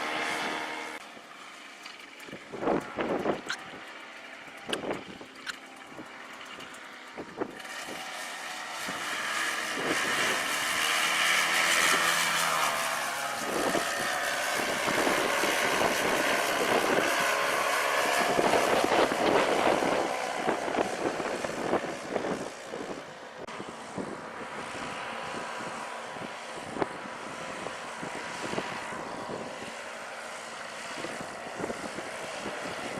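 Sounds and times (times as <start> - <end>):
paramotor engine and propeller: 0.0 - 32.9.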